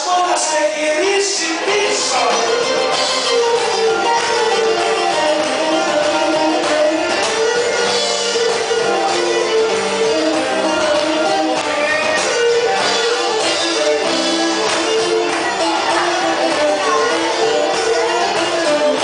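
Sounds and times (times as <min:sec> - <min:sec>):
strummed lute: 0:01.6 - 0:19.0.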